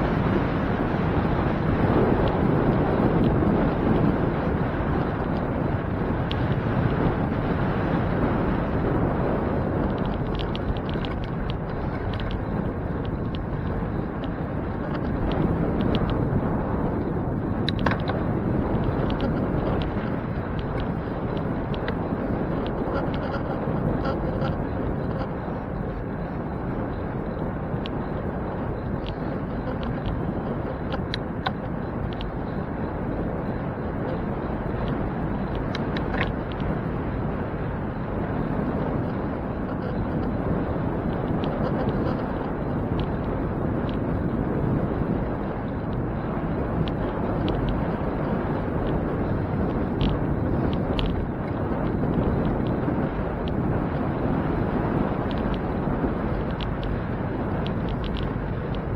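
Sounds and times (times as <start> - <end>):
bicycle road noise: 0.0 - 58.9
wind on microphone: 0.0 - 58.9
light ticks: 1.1 - 26.1, 26.8 - 37.4, 38.5 - 58.9.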